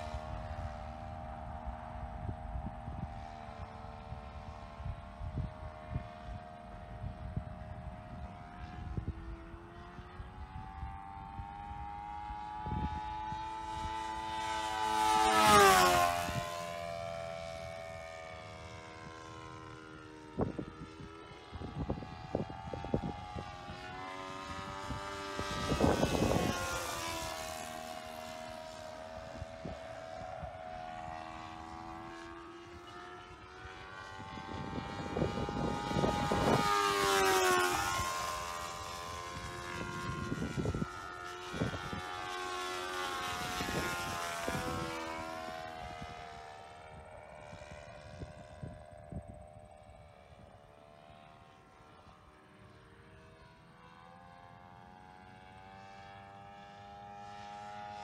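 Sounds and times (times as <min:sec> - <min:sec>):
model airplane engine droning: 0:00.0 - 0:58.0.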